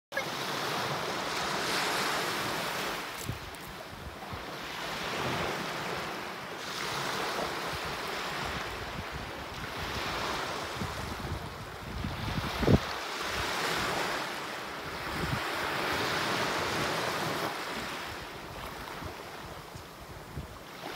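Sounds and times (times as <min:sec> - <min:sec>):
small waves breaking on beach: 0:00.1 - 0:20.9.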